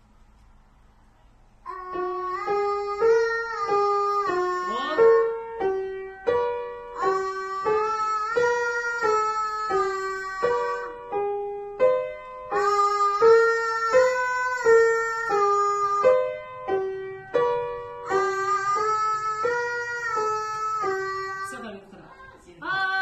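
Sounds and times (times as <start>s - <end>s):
piano playing repeating figure: 1.7s - 21.8s.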